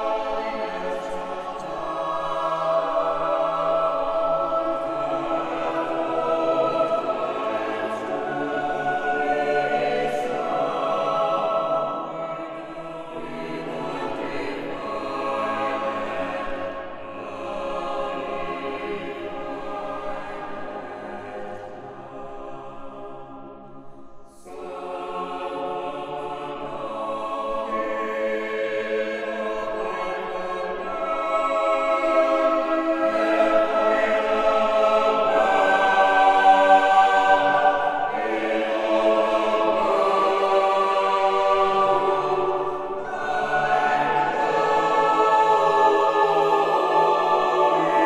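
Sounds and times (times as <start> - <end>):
unaccompanied choir singing: 0.0 - 48.0.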